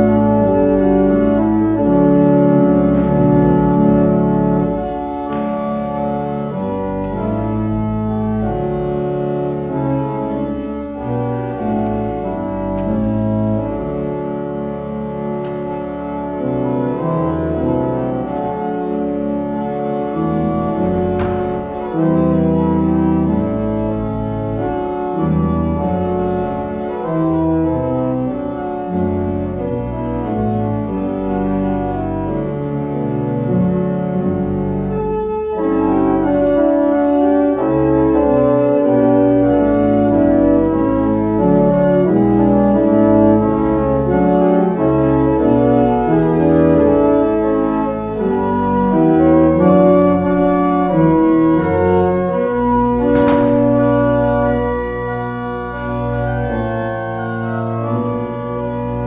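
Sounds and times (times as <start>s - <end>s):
pipe organ playing slow chords: 0.0s - 59.0s.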